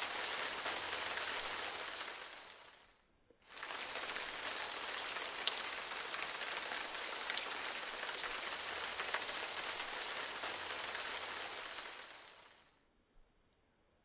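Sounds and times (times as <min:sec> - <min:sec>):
light rain pattering: 0:00.0 - 0:12.8.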